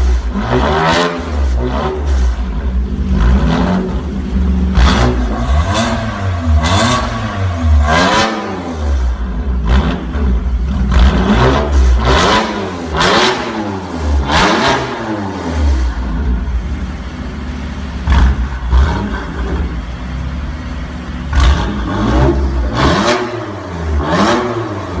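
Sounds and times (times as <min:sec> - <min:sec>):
car engine revving: 0:00.0 - 0:25.0
car engine idling: 0:01.2 - 0:25.0.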